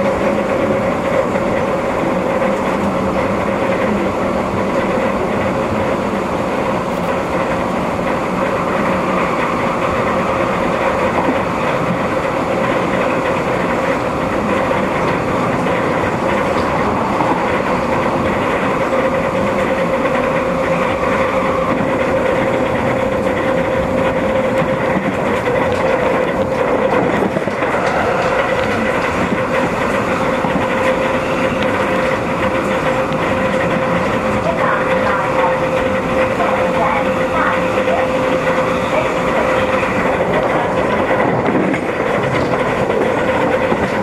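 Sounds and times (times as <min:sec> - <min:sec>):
electric train whine: 0:00.0 - 0:44.0
wheels rumbling on track: 0:00.0 - 0:44.0.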